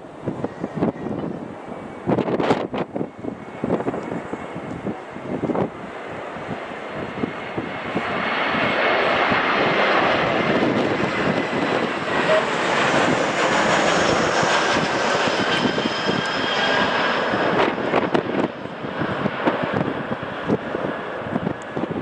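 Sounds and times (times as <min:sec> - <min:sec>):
aircraft engines passing: 0:00.0 - 0:22.0
wind on microphone: 0:00.0 - 0:22.0.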